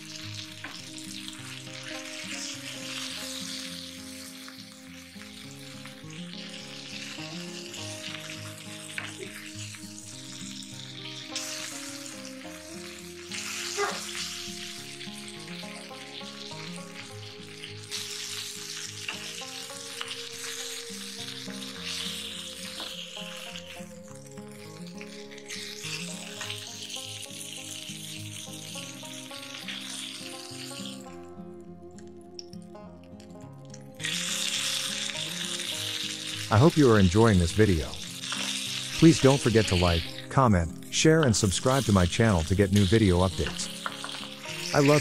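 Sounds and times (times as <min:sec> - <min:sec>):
oil sizzling in grill pan: 0:00.0 - 0:45.0
soft background music: 0:00.0 - 0:45.0.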